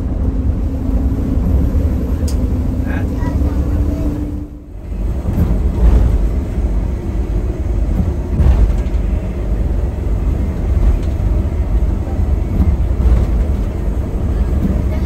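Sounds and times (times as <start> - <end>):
large vehicle engine rumbling: 0.0 - 15.0.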